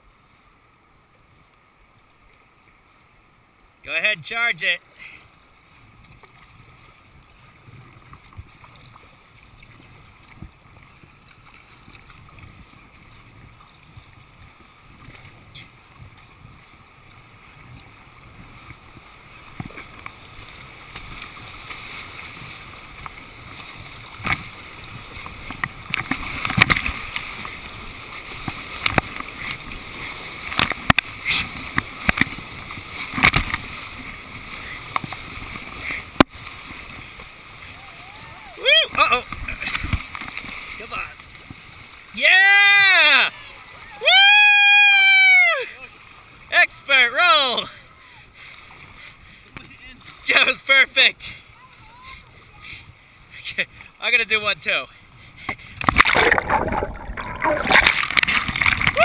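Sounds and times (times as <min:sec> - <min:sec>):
paddle splashes: 0:00.0 - 0:59.0
rushing river water: 0:00.0 - 0:59.0
waves breaking over boat: 0:00.0 - 0:59.0.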